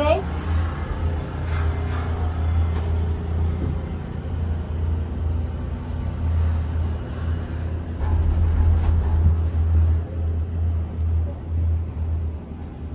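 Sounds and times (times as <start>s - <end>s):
gondola cabin rumble and hum: 0.0s - 12.9s.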